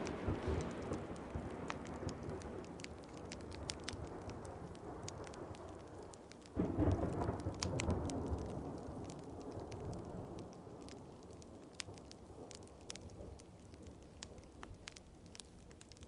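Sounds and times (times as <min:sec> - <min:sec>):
thunder rolling: 0:00.0 - 0:14.0
steady rain: 0:00.0 - 0:16.0
wood fire crackling: 0:00.0 - 0:16.0.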